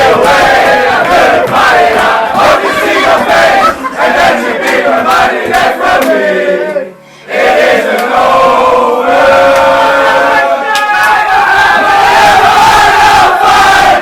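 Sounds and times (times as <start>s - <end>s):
men chanting and singing: 0.0s - 14.0s.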